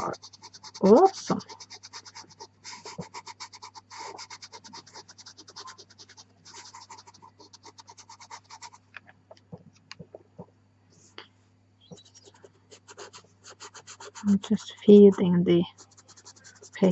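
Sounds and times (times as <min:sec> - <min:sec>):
pastel pencil scratching on paper: 0:00.0 - 0:08.8, 0:11.9 - 0:16.9.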